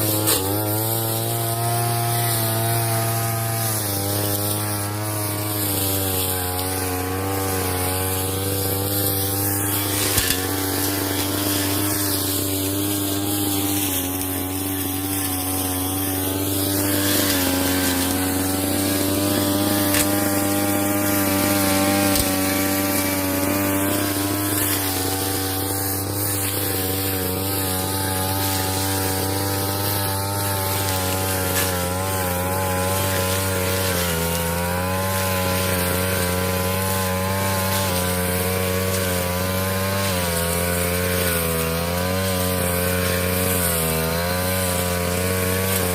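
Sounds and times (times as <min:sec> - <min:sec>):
brush cutter engine at high revs: 0:00.0 - 0:45.9.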